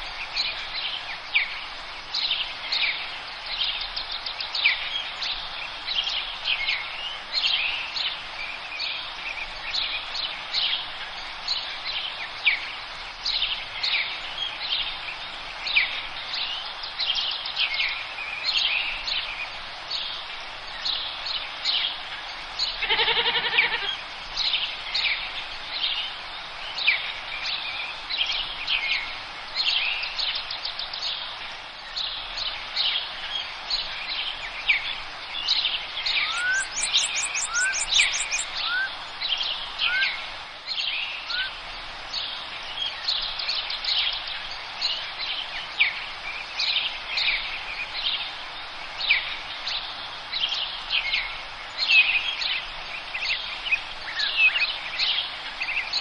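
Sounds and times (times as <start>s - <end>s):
songbirds singing and chirping: 0.0s - 56.0s
steady background hiss: 0.0s - 56.0s.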